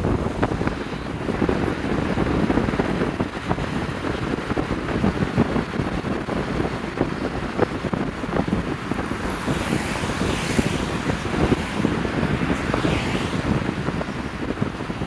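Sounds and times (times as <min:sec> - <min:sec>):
road and tyre noise: 0:00.0 - 0:15.0
wind buffeting microphone: 0:00.0 - 0:15.0.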